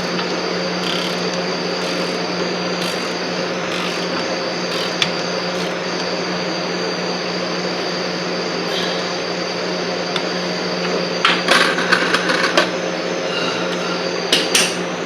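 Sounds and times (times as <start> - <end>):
steady mechanical hum and hiss: 0.0 - 15.0.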